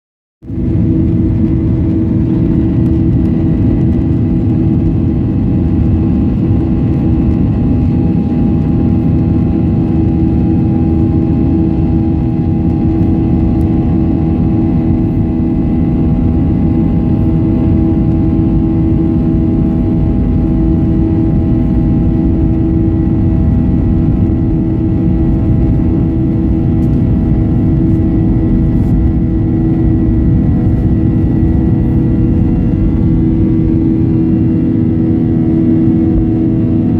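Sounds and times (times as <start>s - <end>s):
jet engines droning: 0.4s - 36.9s.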